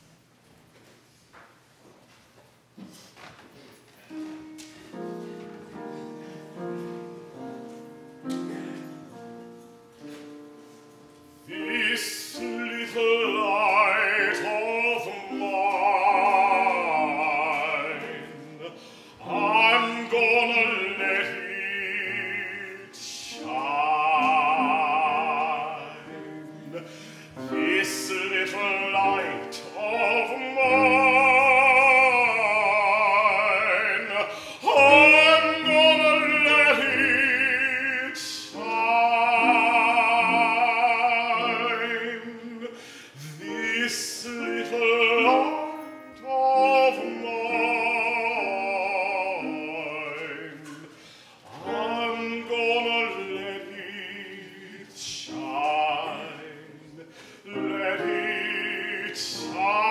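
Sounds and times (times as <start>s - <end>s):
person singing with vibrato: 10.6s - 59.9s.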